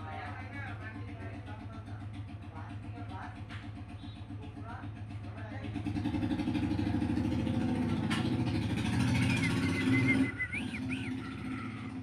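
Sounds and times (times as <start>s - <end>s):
engine running with low pulse: 0.0s - 12.0s.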